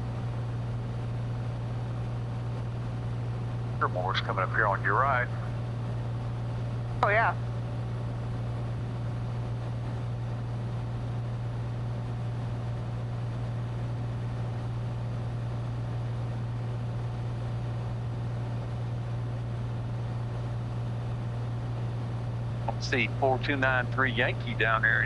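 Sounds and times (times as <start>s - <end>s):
airplane engine droning: 0.0s - 25.0s.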